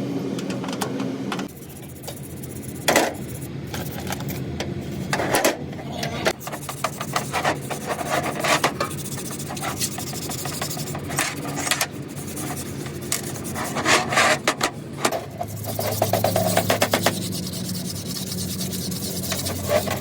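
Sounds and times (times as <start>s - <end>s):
hand tool rasping: 1.5s - 4.3s, 6.4s - 20.0s
low steady hum: 1.5s - 20.0s.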